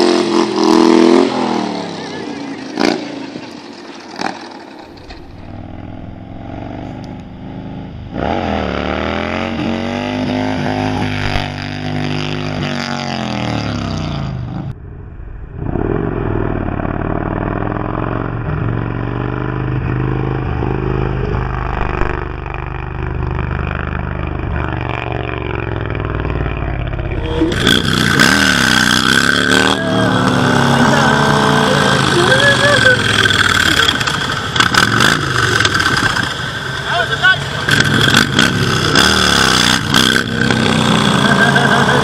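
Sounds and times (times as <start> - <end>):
motorcycle engine revving: 0.0 - 42.0
other motorcycle engine: 0.0 - 42.0.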